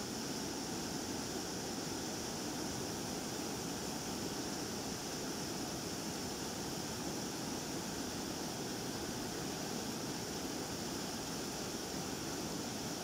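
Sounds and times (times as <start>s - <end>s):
water rushing through rapids: 0.0s - 13.0s.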